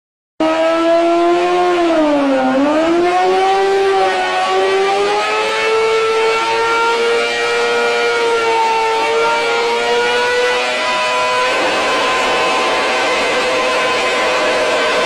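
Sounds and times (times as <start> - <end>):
motorcycle engine revving high: 0.4 - 15.0.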